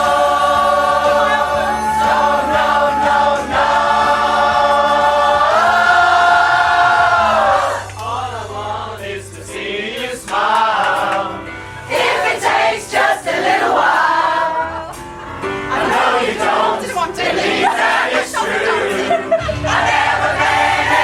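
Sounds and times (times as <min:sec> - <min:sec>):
pop choir singing: 0:00.0 - 0:21.0.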